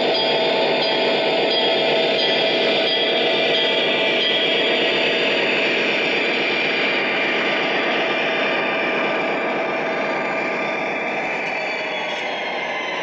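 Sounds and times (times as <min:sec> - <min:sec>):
model train diesel engine sound: 0:00.0 - 0:13.0
model train wheels rolling on track: 0:00.0 - 0:13.0.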